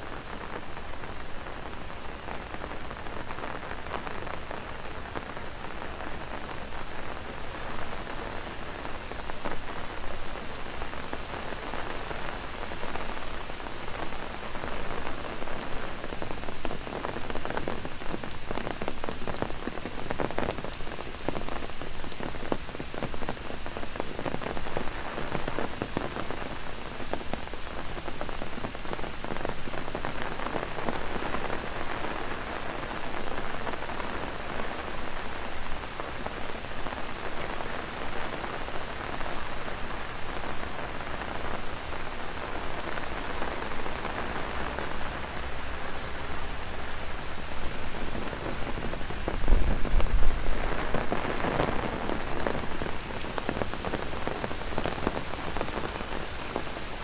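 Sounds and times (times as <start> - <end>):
cicadas droning: 0.0 - 57.0
heavy rain on umbrella: 0.0 - 57.0.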